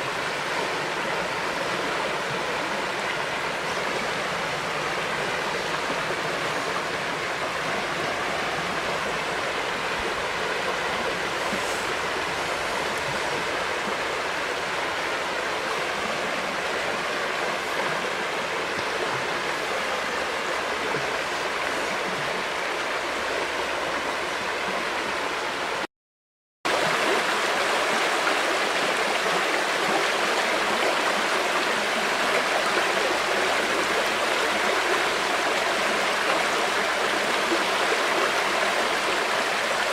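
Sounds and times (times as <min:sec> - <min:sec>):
river water rushing: 0:00.0 - 0:25.8, 0:26.7 - 0:39.9.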